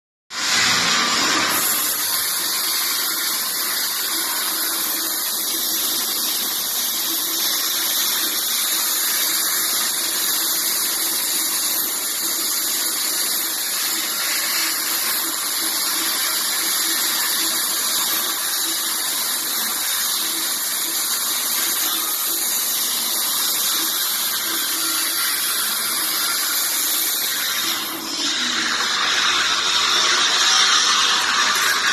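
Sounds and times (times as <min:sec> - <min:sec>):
plasma torch cutting steel: 0:00.4 - 0:31.9.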